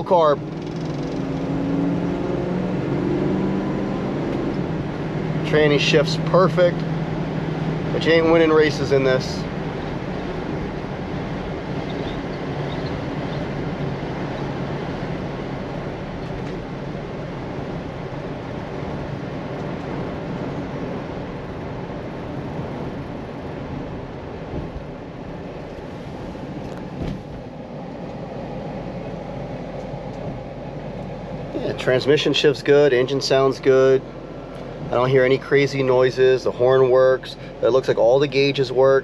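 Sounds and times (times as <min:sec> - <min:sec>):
car engine running: 0:00.0 - 0:39.0
road noise: 0:00.0 - 0:39.0.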